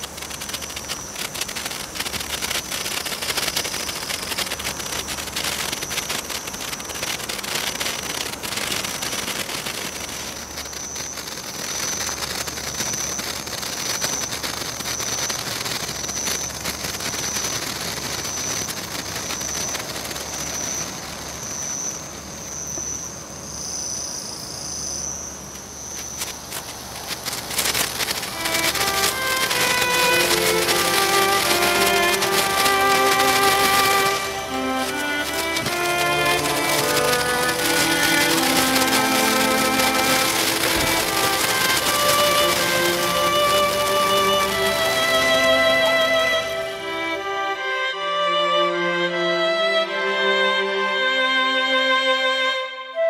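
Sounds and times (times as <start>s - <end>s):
sparkler crackling: 0.0s - 22.9s, 25.4s - 48.0s.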